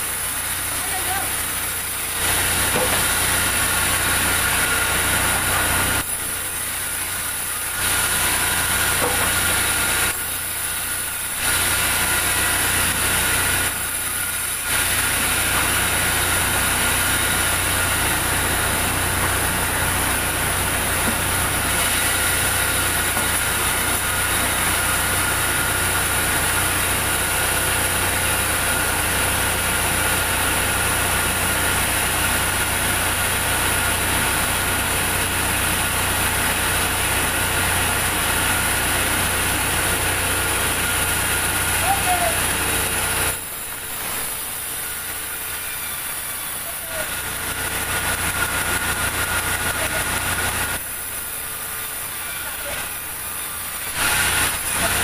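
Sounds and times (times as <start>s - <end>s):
band saw machine drone: 0.0s - 55.0s.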